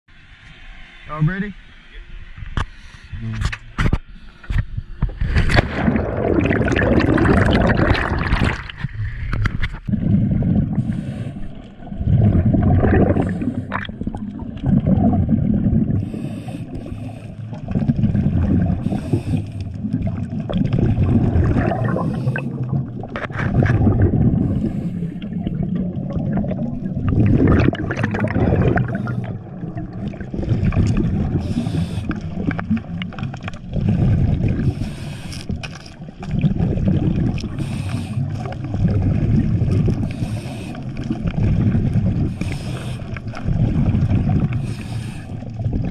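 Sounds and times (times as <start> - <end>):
underwater breathing bubbles: 4.1 - 45.9
rush of water: 5.0 - 45.9.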